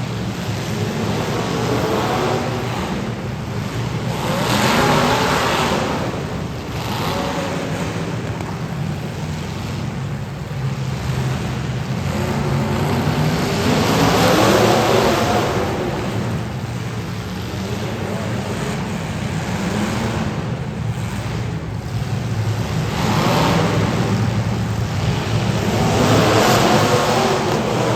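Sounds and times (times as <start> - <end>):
car engines revving: 0.0 - 27.9.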